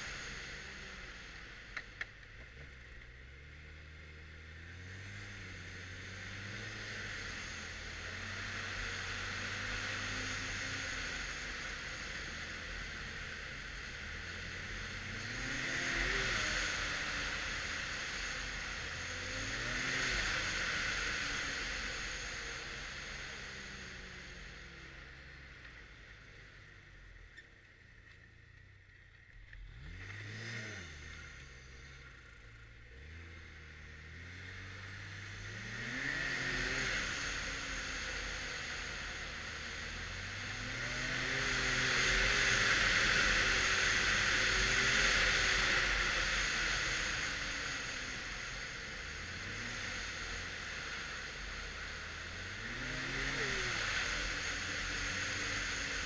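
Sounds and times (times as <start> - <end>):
snowmobile engine revving: 4.5 - 24.6, 29.6 - 56.0.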